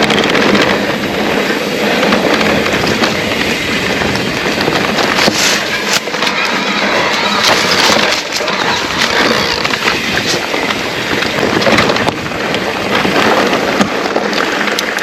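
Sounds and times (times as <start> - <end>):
bike clicks and rattles: 0.0 - 15.0
wind rushing over microphone: 0.0 - 15.0.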